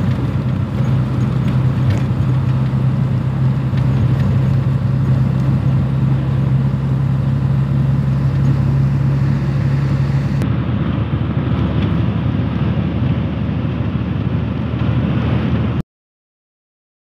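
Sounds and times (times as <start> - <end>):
low hum: 0.0 - 15.0
vehicle driving on highway: 0.0 - 15.8.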